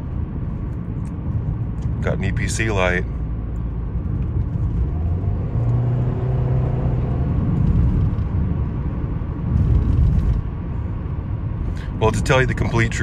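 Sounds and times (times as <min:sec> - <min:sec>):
car engine drone: 0:00.0 - 0:13.0
low hum: 0:00.0 - 0:13.0
road rumble: 0:00.0 - 0:13.0.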